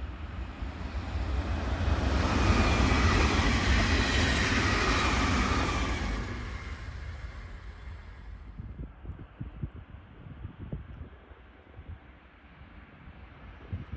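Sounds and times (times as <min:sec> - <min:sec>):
electric train passing at speed: 0:00.0 - 0:10.1, 0:11.2 - 0:13.9.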